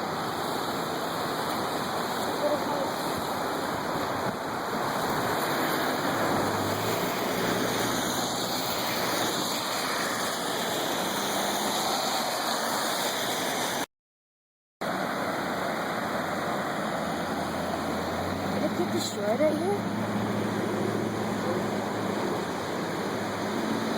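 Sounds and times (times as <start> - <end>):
floodwater rushing: 0.0 - 13.9, 14.8 - 23.9.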